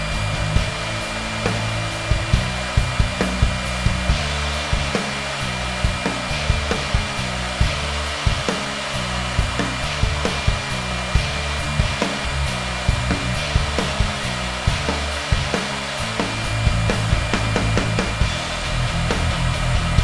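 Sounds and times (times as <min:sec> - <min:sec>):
engraving spindle whining: 0:00.0 - 0:20.0.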